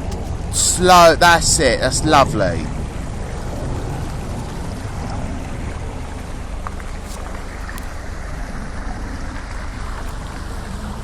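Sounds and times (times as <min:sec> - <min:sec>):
car engine running low: 0:00.0 - 0:11.0
water washing: 0:00.0 - 0:11.0.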